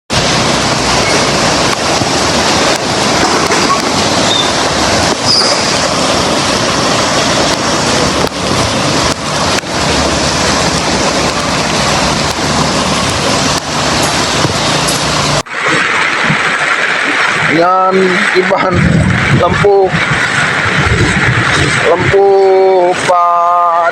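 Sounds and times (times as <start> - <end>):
water rushing: 0.1 - 23.9.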